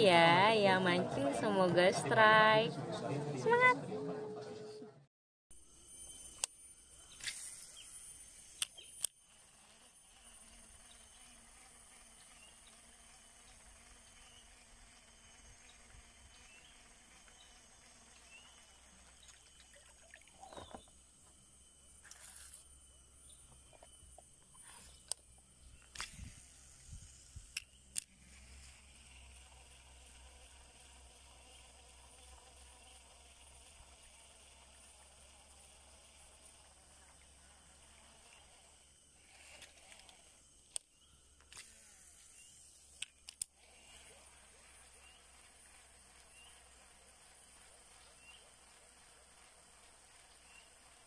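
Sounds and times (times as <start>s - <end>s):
faint outdoor background: 0.0s - 51.0s.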